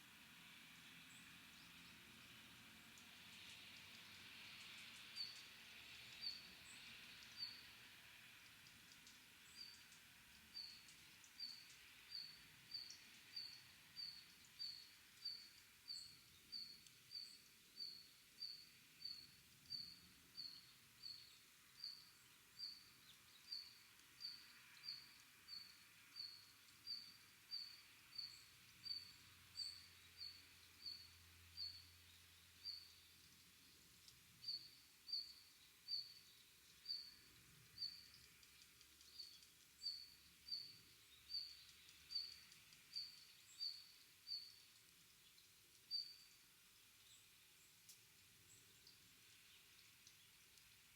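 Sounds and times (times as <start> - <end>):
faint background hiss: 0.0 - 50.9.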